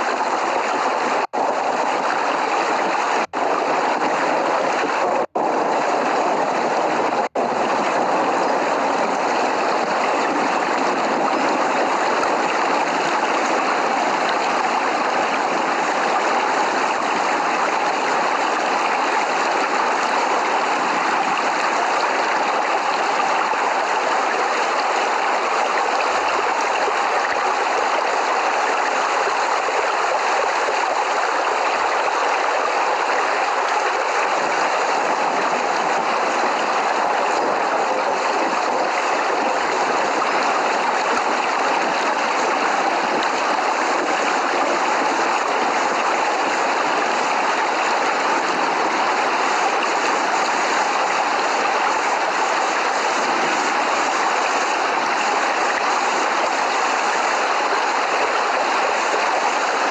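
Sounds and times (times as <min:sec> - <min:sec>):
steady dense rain: 0:00.0 - 0:59.9.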